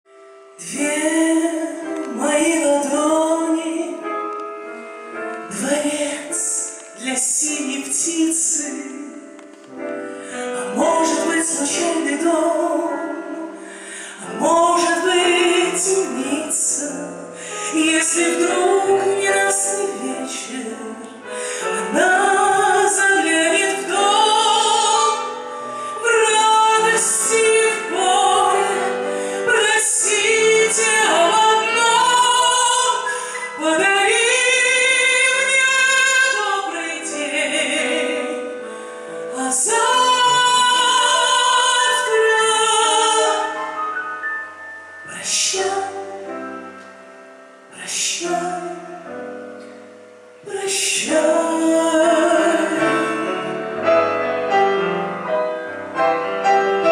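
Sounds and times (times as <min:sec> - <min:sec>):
woman singing into microphone: 0:00.6 - 0:04.2, 0:05.5 - 0:09.6, 0:10.6 - 0:43.6, 0:45.1 - 0:46.7, 0:47.7 - 0:49.3, 0:50.4 - 0:53.7.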